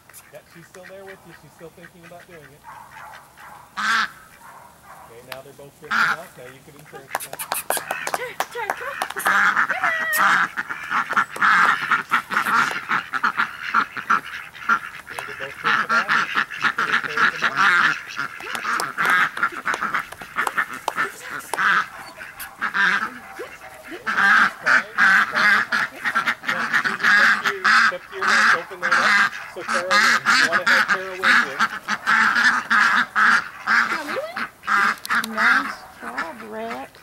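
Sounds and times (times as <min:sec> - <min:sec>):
ducks quacking: 0:00.0 - 0:37.0.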